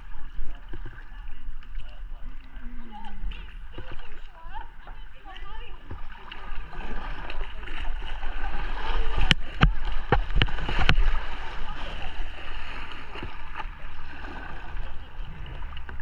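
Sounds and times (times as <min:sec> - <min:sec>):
paddle strokes splashing: 0:00.0 - 0:16.0
rushing water: 0:00.0 - 0:16.0.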